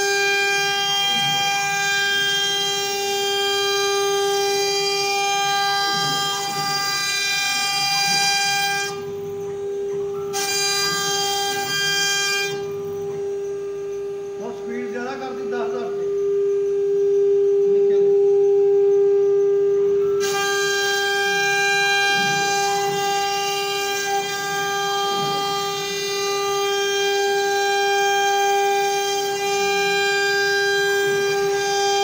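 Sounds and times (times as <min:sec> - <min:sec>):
router spindle whining: 0:00.0 - 0:32.0.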